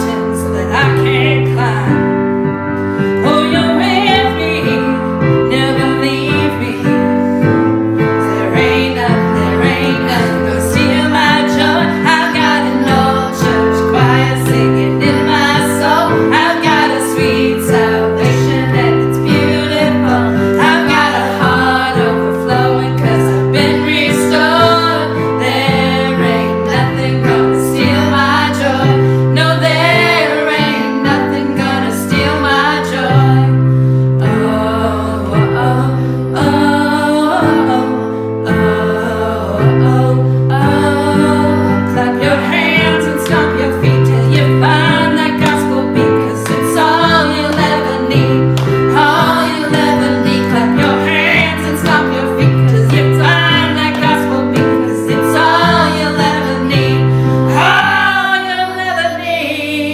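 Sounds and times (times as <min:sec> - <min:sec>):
electric keyboard piano chords: 0:00.0 - 0:59.9
people singing worship song: 0:00.0 - 0:59.9.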